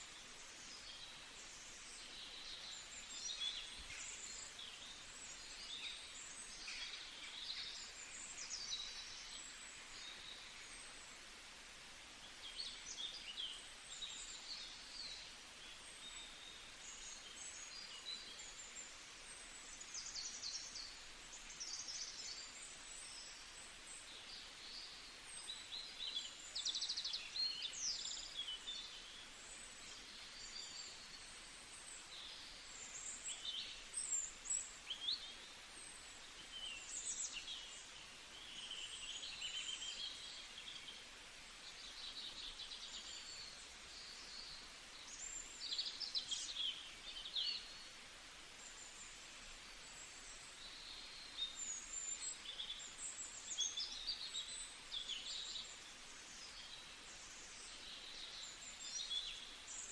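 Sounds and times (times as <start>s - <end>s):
faint outdoor hiss: 0.0s - 59.9s
small songbirds singing: 0.0s - 59.9s.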